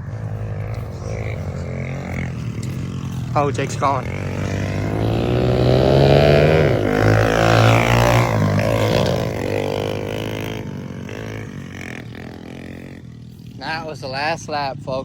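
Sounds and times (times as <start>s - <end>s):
motorbike engine revving past: 0.0s - 14.4s.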